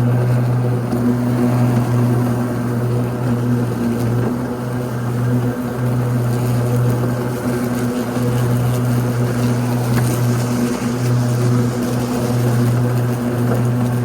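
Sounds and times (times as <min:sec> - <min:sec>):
electric mower motors humming: 0:00.0 - 0:14.0.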